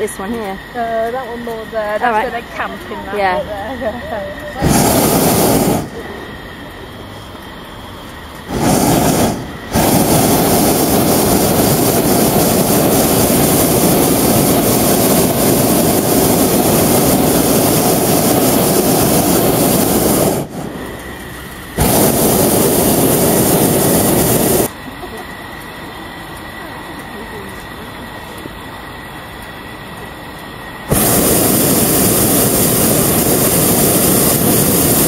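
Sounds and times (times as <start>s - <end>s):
propane burner firing: 0.0s - 35.0s.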